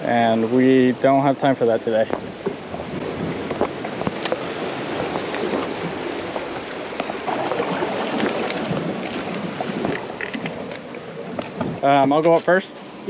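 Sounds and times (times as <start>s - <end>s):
surf washing around rocks: 0.0s - 13.0s.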